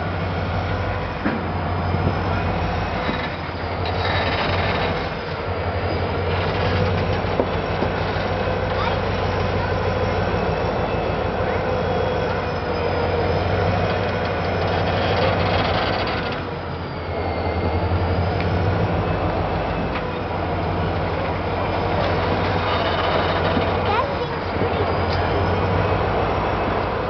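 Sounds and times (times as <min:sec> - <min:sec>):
high wheel squeals: 0:00.0 - 0:27.0
rumble of steel train wheels: 0:00.0 - 0:27.0.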